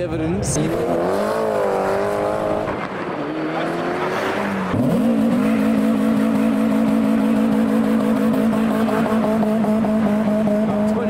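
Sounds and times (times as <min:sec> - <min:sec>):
car engine revving: 0:00.2 - 0:11.0.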